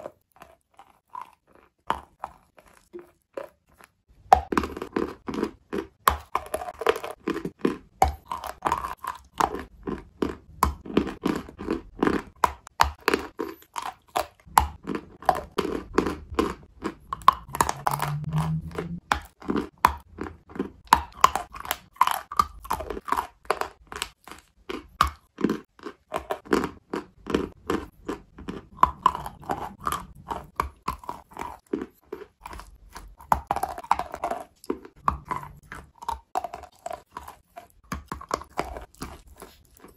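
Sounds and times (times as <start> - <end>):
crunching and chewing chalk: 0.0 - 39.9.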